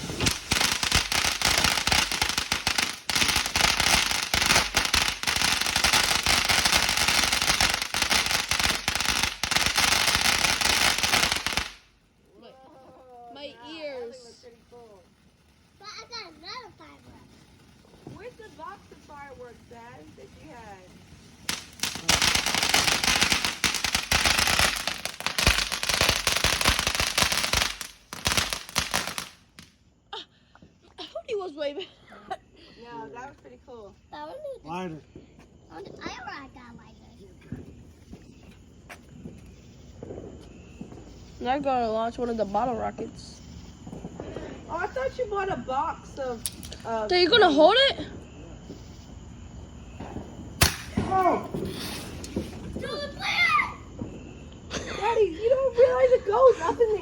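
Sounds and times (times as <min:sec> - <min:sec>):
firecrackers popping: 0:00.0 - 0:57.0.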